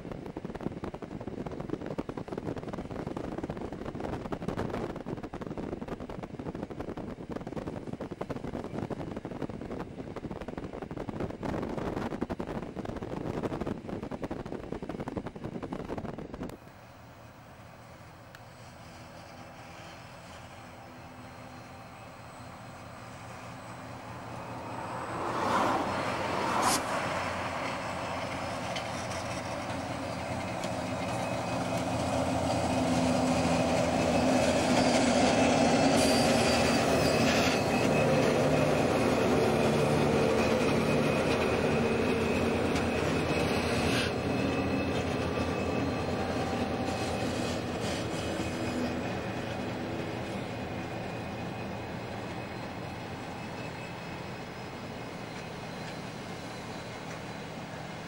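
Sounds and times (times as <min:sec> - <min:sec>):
locomotive engine drone: 0:00.0 - 0:58.0
train carriages rumbling on rails: 0:00.0 - 0:58.0.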